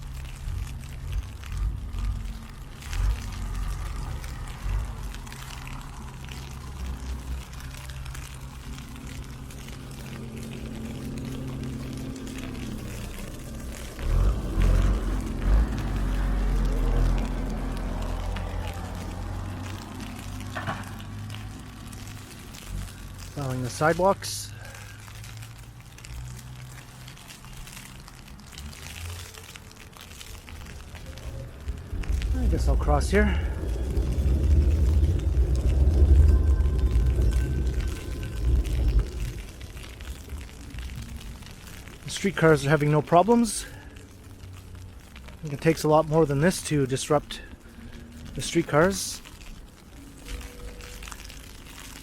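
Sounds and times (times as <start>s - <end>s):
ice pellets ticking on umbrella: 0.0s - 52.0s
low steady rumble: 0.0s - 52.0s
low vehicle engine hum: 0.0s - 52.0s.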